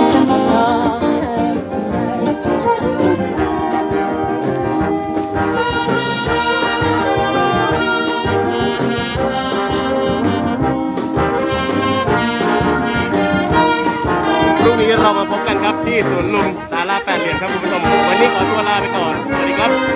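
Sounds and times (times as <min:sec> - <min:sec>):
concert band playing: 0:00.0 - 0:19.9.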